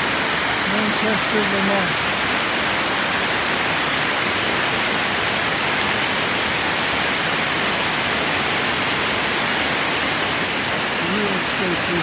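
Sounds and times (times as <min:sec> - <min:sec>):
water pouring over dam: 0:00.0 - 0:12.0.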